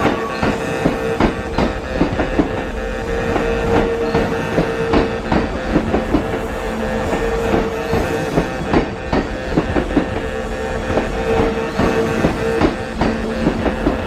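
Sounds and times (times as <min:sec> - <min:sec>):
train wheels clacking: 0:00.0 - 0:14.0.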